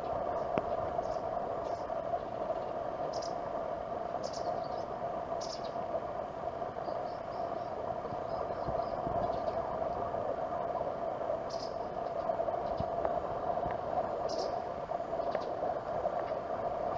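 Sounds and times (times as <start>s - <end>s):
steady ambient hum: 0.0s - 16.9s.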